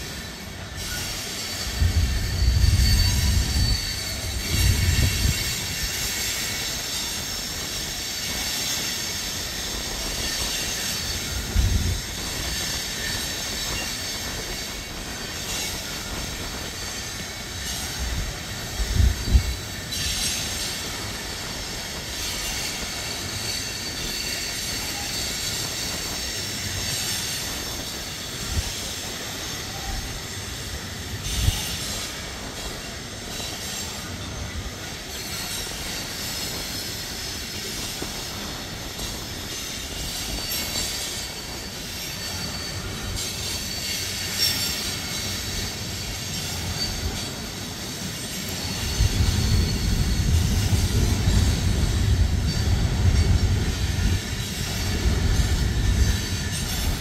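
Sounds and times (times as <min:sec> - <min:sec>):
train wheels squealing: 0:00.0 - 0:57.0.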